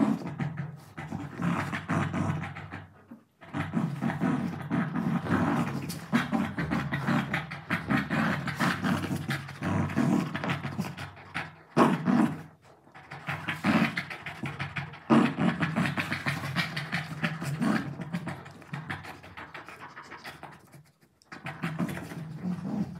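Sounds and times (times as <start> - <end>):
dogs play-growling: 0.0 - 22.9.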